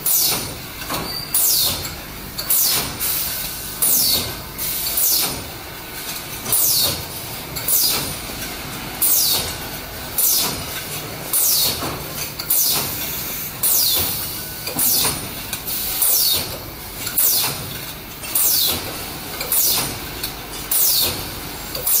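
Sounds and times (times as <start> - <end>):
machine running noise: 0.0 - 22.0.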